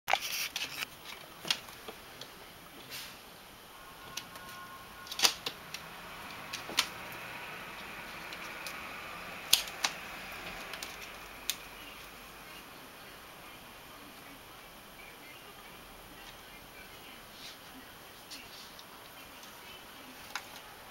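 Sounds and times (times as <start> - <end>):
faint steady hiss: 0.2 - 20.9.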